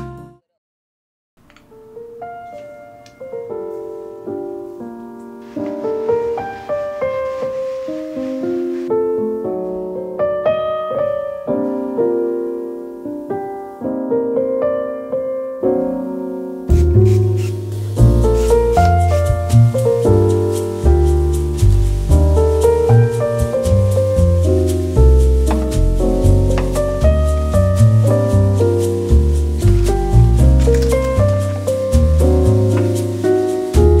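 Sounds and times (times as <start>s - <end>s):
gentle solo piano: 1.7s - 34.0s.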